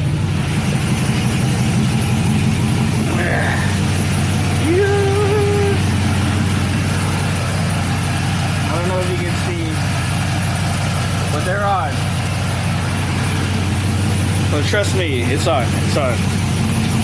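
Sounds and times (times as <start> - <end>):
engine idling with choppy rumble: 0.0 - 17.0.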